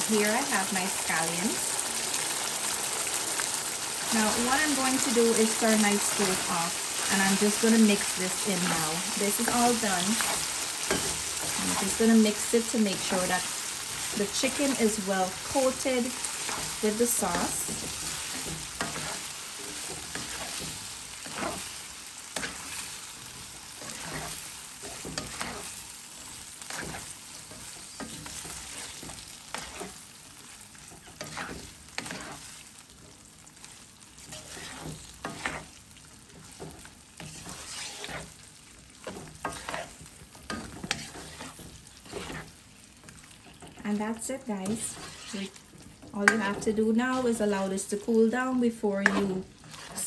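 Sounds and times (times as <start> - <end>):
food sizzling: 0.0 - 50.0
spatula scraping wok: 0.0 - 50.0.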